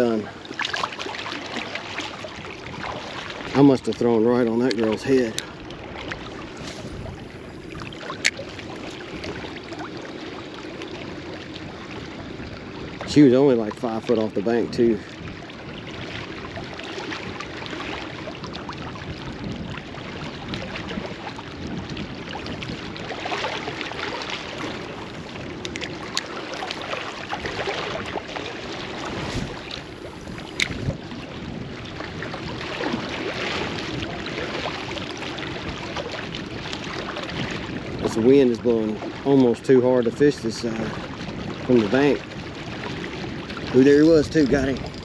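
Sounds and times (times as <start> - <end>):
water lapping against rocks: 0.0 - 45.0
wind buffeting microphone: 0.0 - 45.0.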